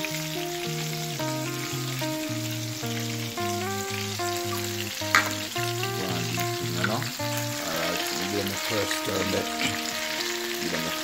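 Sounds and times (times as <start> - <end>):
fish sizzling in hot oil: 0.0 - 11.0
music melody: 0.0 - 11.0.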